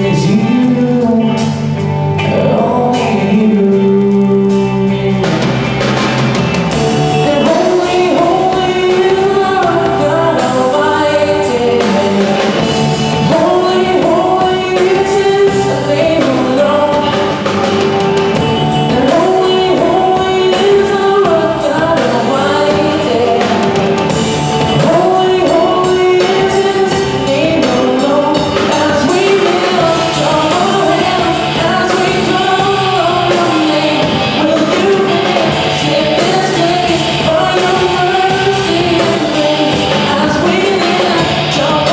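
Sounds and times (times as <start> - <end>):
electric guitars: 0.0 - 41.9
male singer: 0.0 - 41.9.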